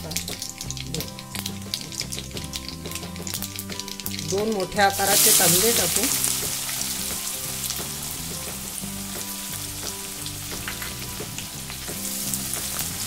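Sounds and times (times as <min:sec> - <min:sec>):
onions sizzling in hot oil: 0:00.0 - 0:13.0
soft background music: 0:00.0 - 0:13.0.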